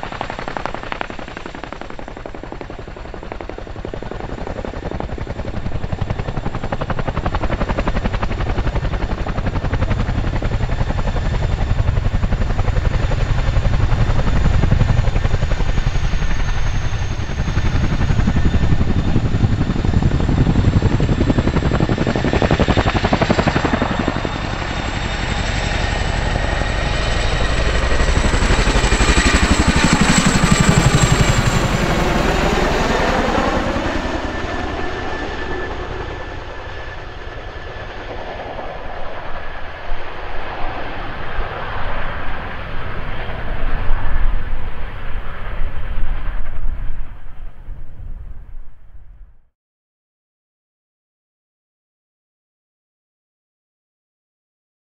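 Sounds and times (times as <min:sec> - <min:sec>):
helicopter rotors beating: 0:00.0 - 0:48.4
high turbine whine: 0:00.0 - 0:49.0.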